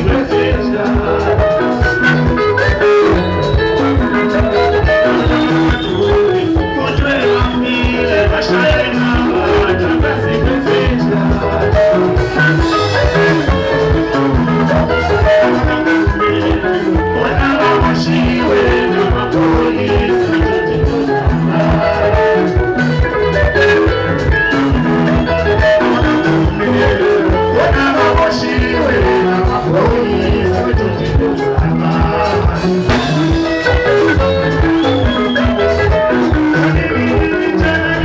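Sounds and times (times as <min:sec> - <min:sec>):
bass: 0:00.0 - 0:38.0
drum kit beat: 0:00.0 - 0:38.0
electric guitar lines: 0:00.0 - 0:38.0
people singing into microphones: 0:00.0 - 0:38.0.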